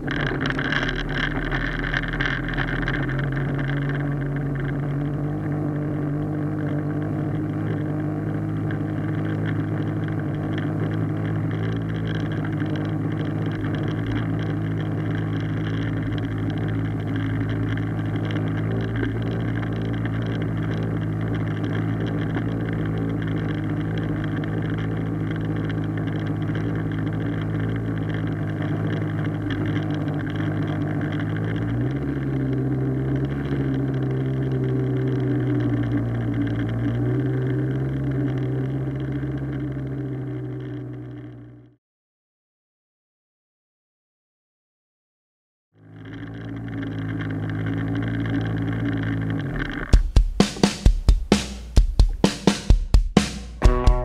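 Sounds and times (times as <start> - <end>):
outboard motor running: 0.0 - 41.8, 45.8 - 54.0.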